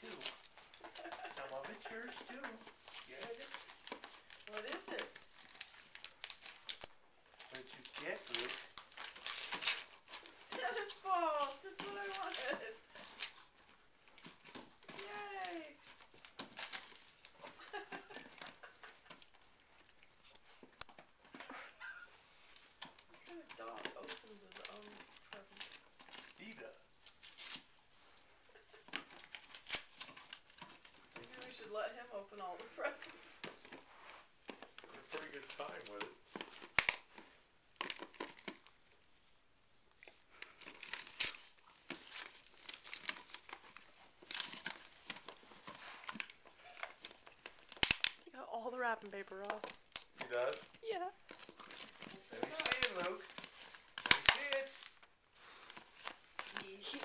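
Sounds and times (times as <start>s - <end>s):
wrapping paper crackling: 0.0s - 19.2s, 21.8s - 57.0s.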